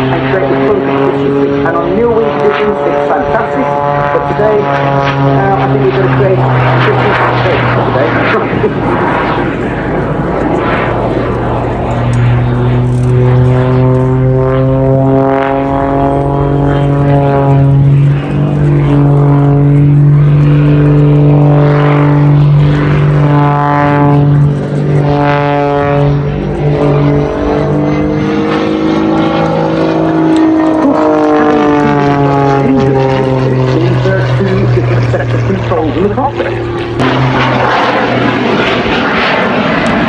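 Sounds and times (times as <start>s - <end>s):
propeller aircraft engine droning: 0.0s - 40.0s.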